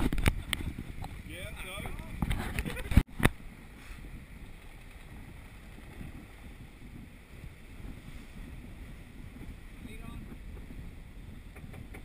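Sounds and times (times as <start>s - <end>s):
wind and water noise: 0.0s - 12.0s
wind rumbling on microphone: 0.0s - 12.0s.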